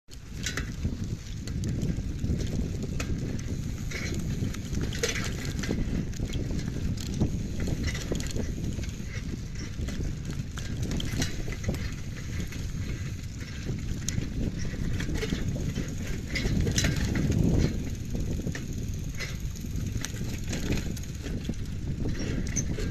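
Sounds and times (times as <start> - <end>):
bike rattling over bumps: 0.1 - 22.9
tyres rumbling on dirt: 0.2 - 22.9.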